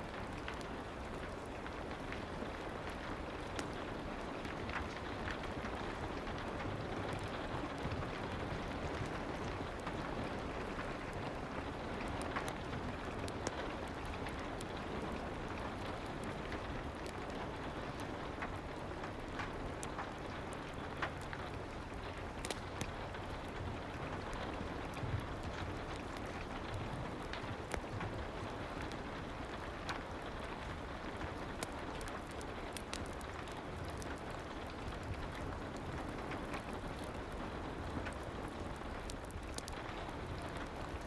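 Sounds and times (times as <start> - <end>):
soft rain: 0.0 - 41.0
wood fire crackling: 0.0 - 41.0.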